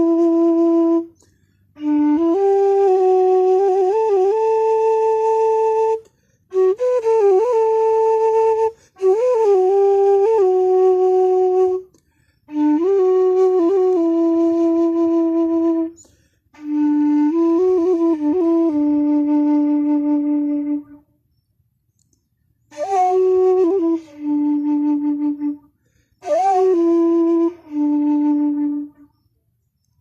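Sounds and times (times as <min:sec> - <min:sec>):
bamboo flute playing: 0:00.0 - 0:21.2, 0:22.6 - 0:29.9.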